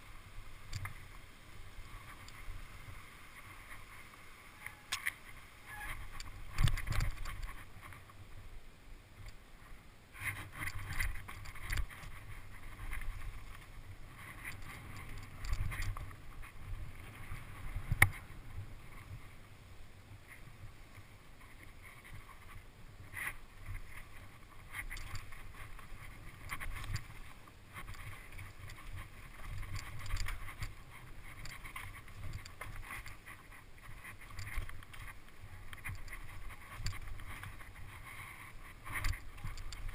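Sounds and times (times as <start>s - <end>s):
bike tyres rumbling and rattling: 0.0s - 8.3s, 9.2s - 39.9s
wind on microphone: 0.0s - 8.4s, 10.2s - 19.5s, 20.1s - 39.9s.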